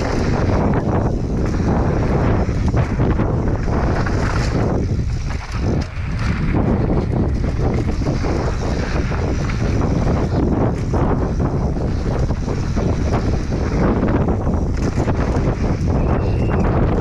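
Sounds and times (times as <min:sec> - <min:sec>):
tyres rolling over dirt: 0:00.0 - 0:17.0
wind rushing over microphone: 0:00.0 - 0:17.0.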